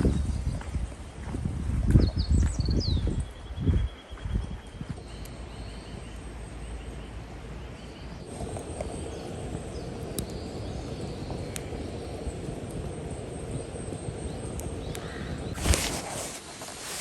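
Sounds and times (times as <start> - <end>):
small birds chirping: 2.0 - 17.0.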